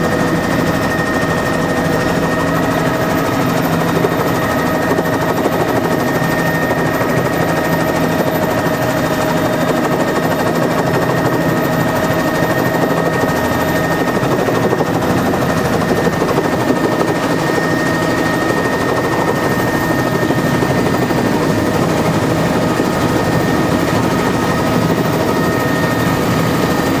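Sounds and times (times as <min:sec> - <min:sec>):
helicopter engine whine: 0:00.0 - 0:27.0
helicopter rotor chopping: 0:00.0 - 0:27.0.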